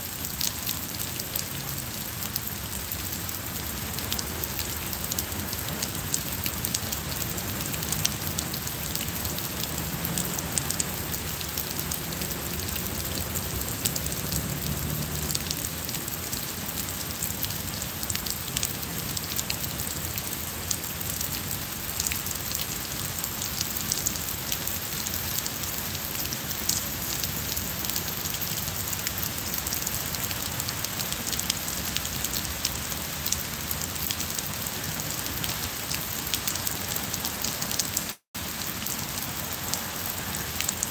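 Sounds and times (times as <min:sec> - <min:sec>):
rain on stone and plants: 0:00.0 - 0:40.9.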